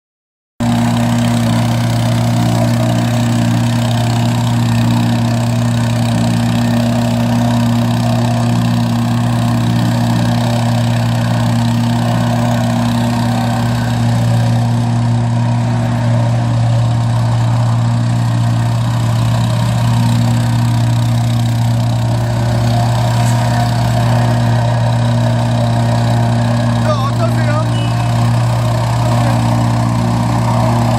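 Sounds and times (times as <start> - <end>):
compactor mechanical hum: 0.8 - 30.9.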